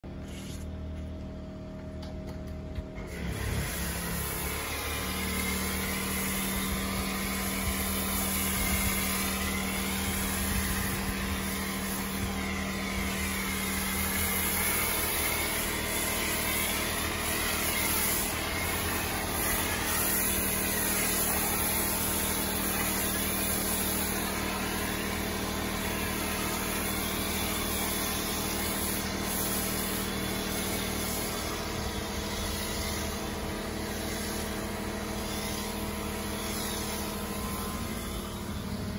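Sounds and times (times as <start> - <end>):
pressure washer motor hum: 0.1 - 38.9
foam cannon spraying hiss: 3.1 - 38.9.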